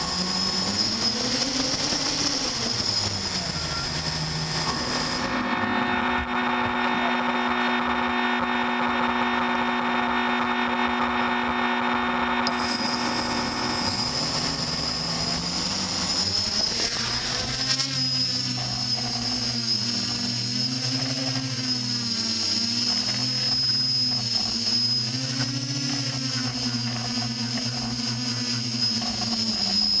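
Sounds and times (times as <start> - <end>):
drone motors and propellers: 0.0 - 30.0
high electronic whine: 0.0 - 30.0.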